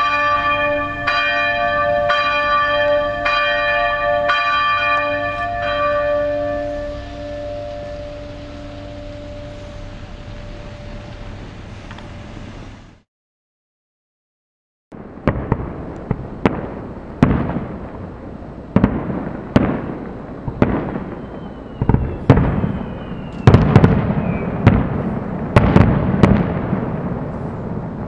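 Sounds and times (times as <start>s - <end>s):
fireworks bangs with rolling echo: 0.0s - 12.0s, 15.0s - 28.0s.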